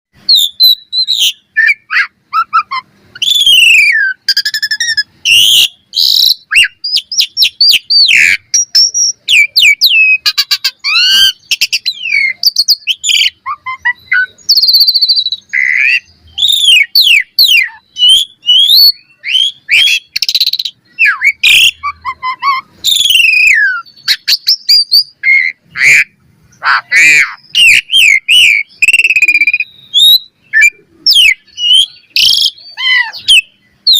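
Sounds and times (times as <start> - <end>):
starling singing: 0.2 - 33.9.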